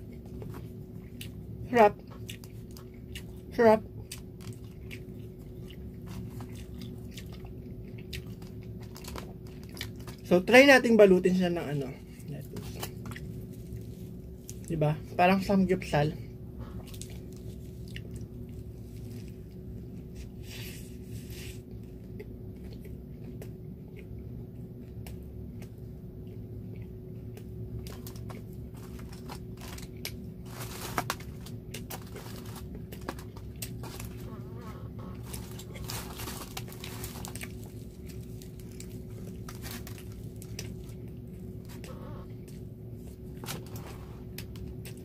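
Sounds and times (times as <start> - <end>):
person chewing crunchy food: 0.0 - 10.3, 11.8 - 14.8, 16.2 - 45.0
steady low hum: 0.0 - 45.0.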